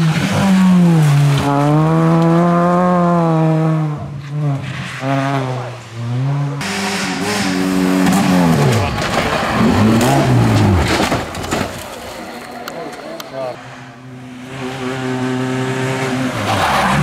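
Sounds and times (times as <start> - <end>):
rally car engine at high revs: 0.0 - 11.3, 13.6 - 17.0.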